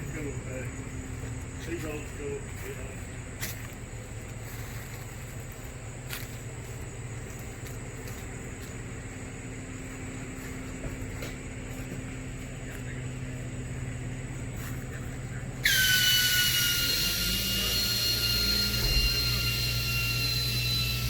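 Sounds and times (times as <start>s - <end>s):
loud high whine: 0.0s - 21.0s
vehicle driving drone: 0.0s - 21.0s.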